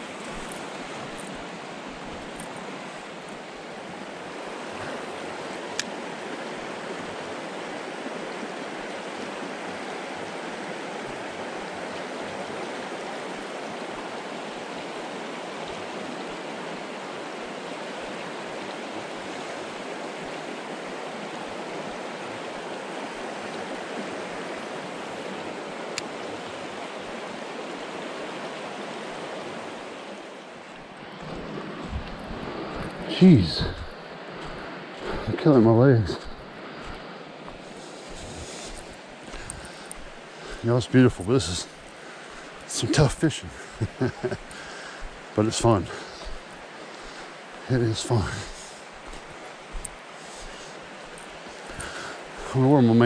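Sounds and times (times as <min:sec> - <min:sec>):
creek water rushing over stones: 0:00.0 - 0:53.0.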